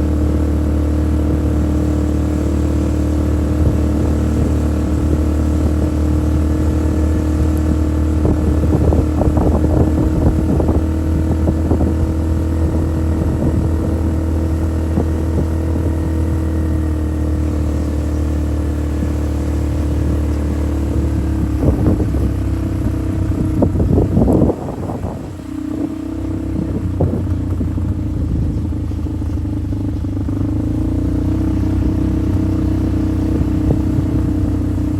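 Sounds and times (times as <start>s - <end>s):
off-road vehicle engine running: 0.0s - 34.9s.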